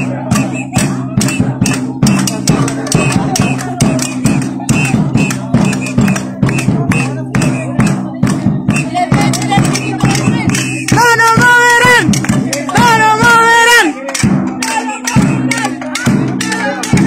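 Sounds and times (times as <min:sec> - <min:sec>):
rhythmic percussion: 0:00.0 - 0:17.0.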